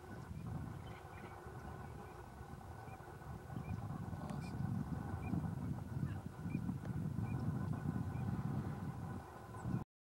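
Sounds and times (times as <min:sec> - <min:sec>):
geese calling: 0:00.0 - 0:09.8
low uneven rumble: 0:00.0 - 0:09.8.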